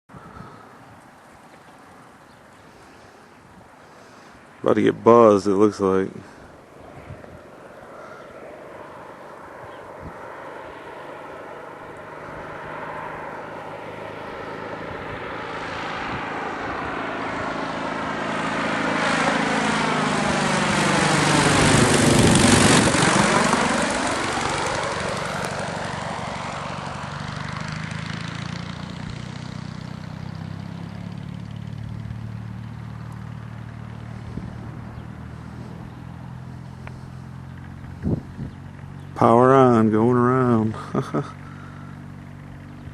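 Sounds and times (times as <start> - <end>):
light aircraft flying overhead: 0.1 - 42.9.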